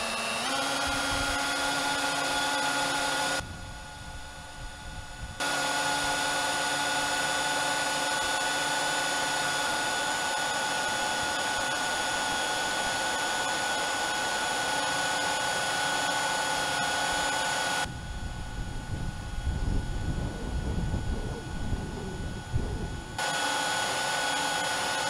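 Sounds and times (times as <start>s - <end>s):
electric motor whine with gears: 0.0s - 25.0s.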